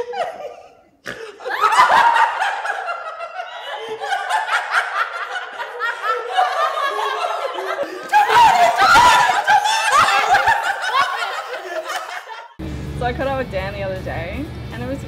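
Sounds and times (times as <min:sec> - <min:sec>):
high-pitched voices laughing: 0:00.0 - 0:12.6.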